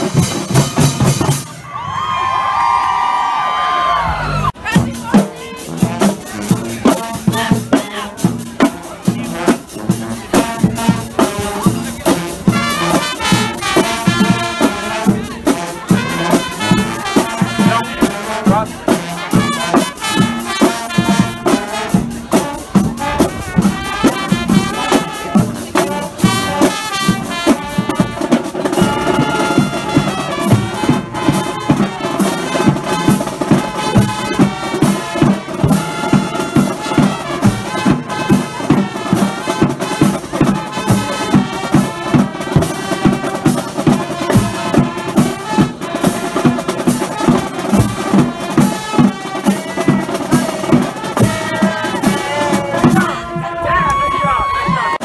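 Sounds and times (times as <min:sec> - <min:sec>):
drumline beat: 0:00.0 - 0:01.6, 0:04.6 - 0:55.0
brass playing melody: 0:04.6 - 0:53.8.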